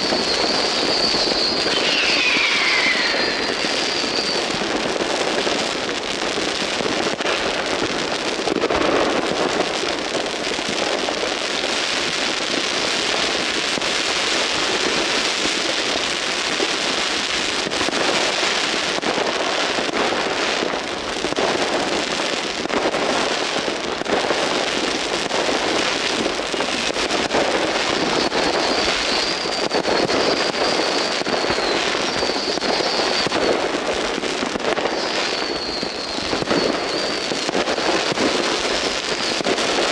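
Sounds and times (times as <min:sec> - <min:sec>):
firework whistle: 0:00.0 - 0:39.9
fireworks crackling and banging: 0:00.0 - 0:39.9.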